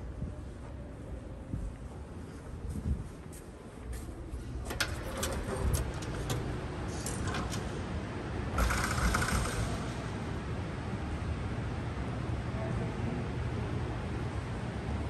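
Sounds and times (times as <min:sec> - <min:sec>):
low rumble of building noise: 0:00.0 - 0:15.0.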